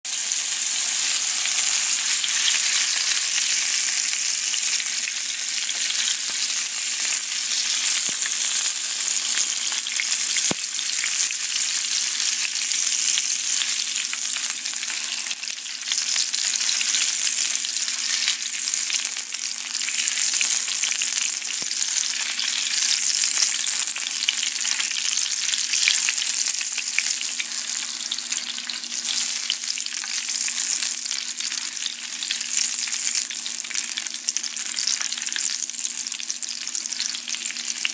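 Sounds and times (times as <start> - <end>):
food sizzling in a hot pan: 0.1 - 37.9.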